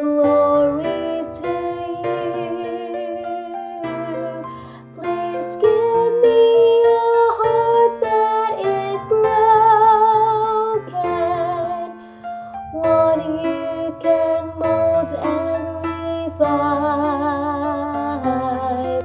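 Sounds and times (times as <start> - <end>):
keyboard accompaniment: 0.0 - 19.0
woman singing soprano: 0.0 - 19.0.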